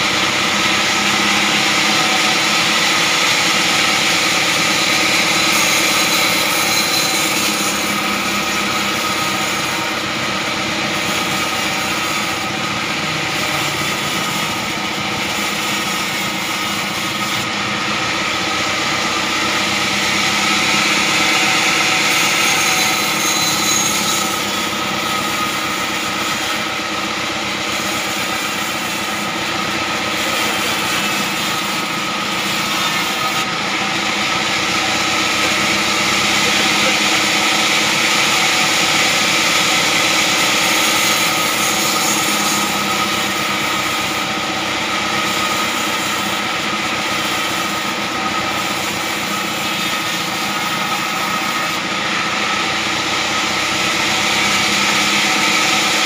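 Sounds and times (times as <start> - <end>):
machine humming: 0.0 - 56.0
band saw blade hissing through wood: 0.1 - 17.4, 18.6 - 33.5, 34.1 - 51.8.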